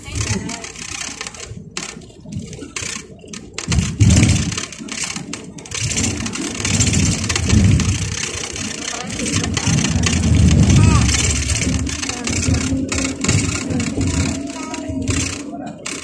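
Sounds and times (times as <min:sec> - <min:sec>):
vehicle road and engine noise: 0:00.0 - 0:16.0.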